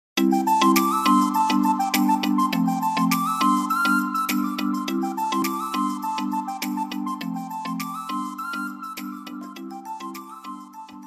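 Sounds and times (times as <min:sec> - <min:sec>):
background music with melody: 0:00.2 - 0:11.0
light percussion: 0:00.2 - 0:11.0.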